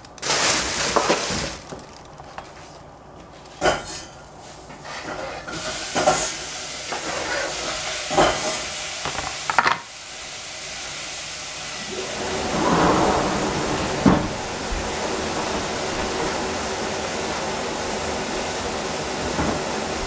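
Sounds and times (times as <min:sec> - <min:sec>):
stove hiss: 0:03.6 - 0:20.0.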